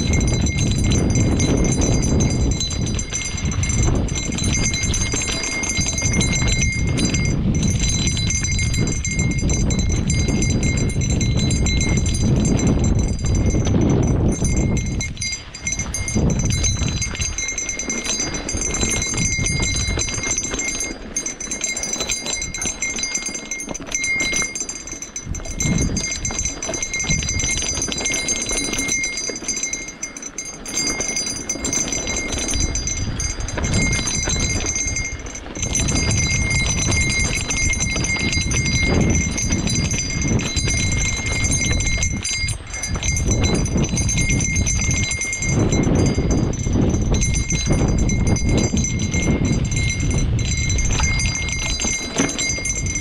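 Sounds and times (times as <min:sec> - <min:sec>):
horse hooves clopping: 0:00.0 - 0:53.0.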